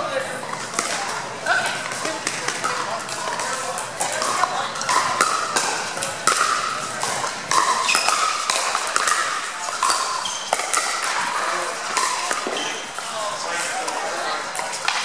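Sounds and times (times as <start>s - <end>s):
background chatter of voices: 0.0s - 15.0s
paddles hitting plastic ball: 0.5s - 12.8s.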